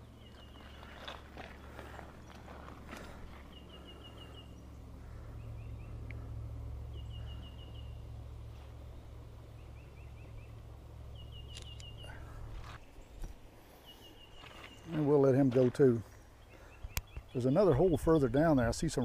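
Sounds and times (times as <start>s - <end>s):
low steady rumble: 0.0s - 19.0s
songbird chirping: 0.0s - 19.0s.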